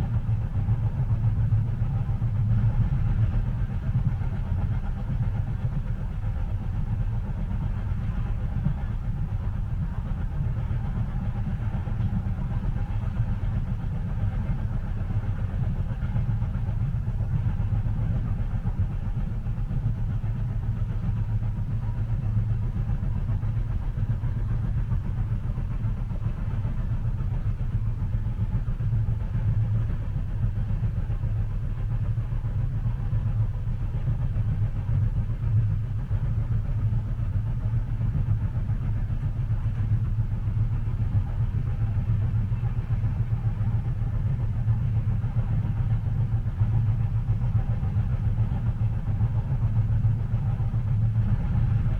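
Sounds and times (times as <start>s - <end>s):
train carriage rumble: 0.0s - 51.9s.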